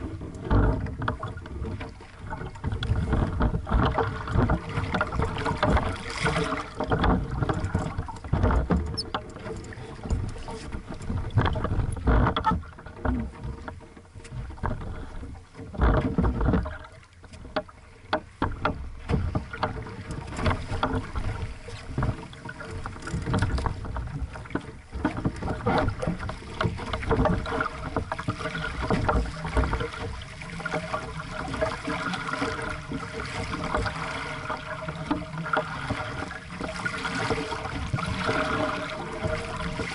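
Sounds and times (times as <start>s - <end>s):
water splashing against boat hull: 0.0s - 39.9s.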